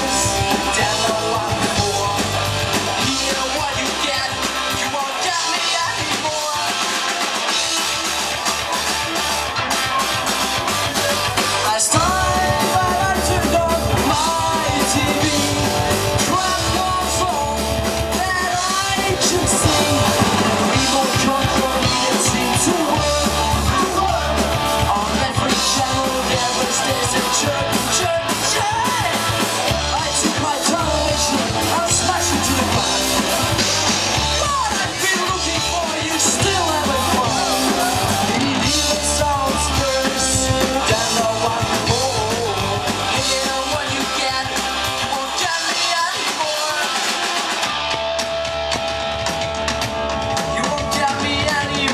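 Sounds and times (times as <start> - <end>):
person singing and yelling: 0.0 - 48.4, 50.1 - 51.9
bass guitar: 0.0 - 51.9
distorted electric guitars: 0.0 - 51.9
drum kit: 0.0 - 51.9.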